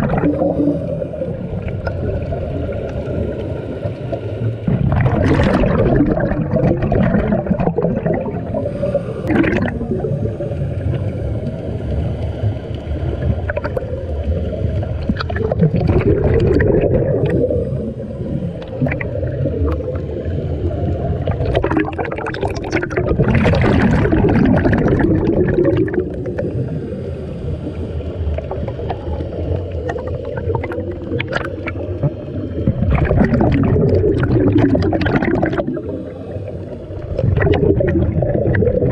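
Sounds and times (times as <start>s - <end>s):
low rumble of water: 0.0s - 38.9s
regulator exhale bubbling: 0.0s - 38.9s.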